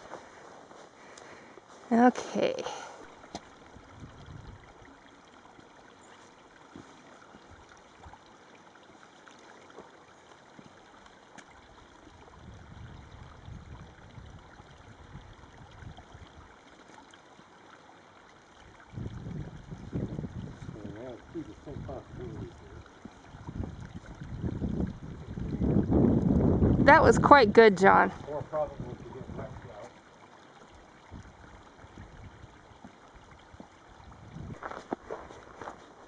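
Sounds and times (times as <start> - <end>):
creek trickling over rocks: 0.0 - 36.0.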